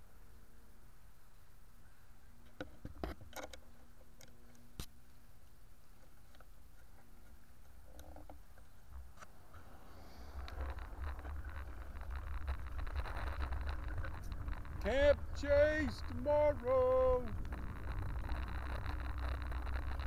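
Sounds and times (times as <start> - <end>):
low steady rumble: 0.0 - 20.0
rustling: 2.4 - 20.0.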